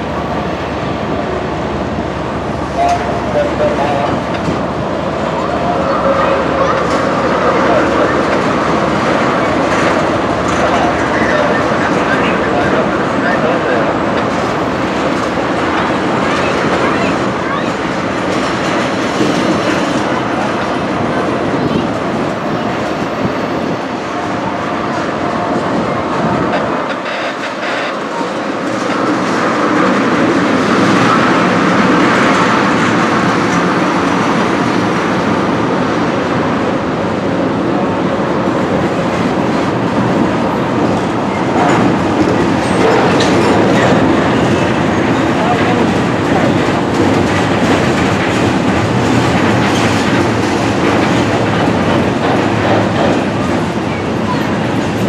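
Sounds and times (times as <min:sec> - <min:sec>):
train wheels rolling on track: 0:00.0 - 0:55.0.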